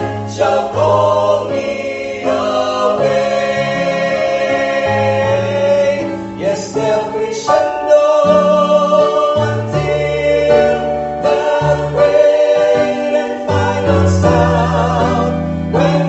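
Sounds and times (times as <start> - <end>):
vocal quartet singing in harmony: 0.0 - 16.0.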